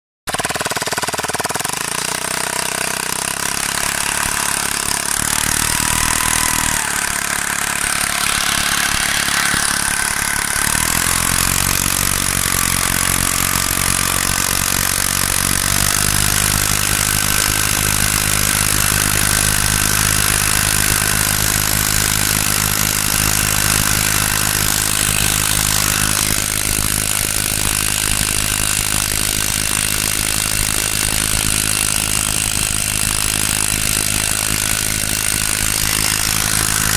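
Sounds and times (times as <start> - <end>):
small boat motor running: 0.4 - 36.9.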